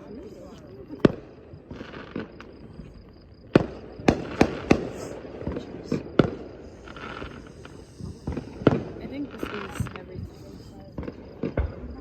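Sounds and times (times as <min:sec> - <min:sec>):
fireworks bangs: 0:00.4 - 0:12.0.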